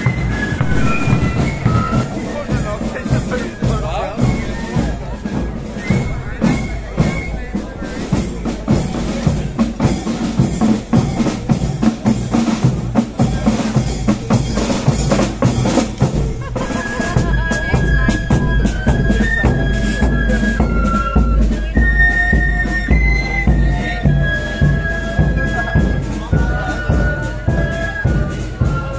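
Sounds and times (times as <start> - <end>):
flutes playing melody: 0.0 - 28.9
side drums and bass drum marching: 0.0 - 28.9.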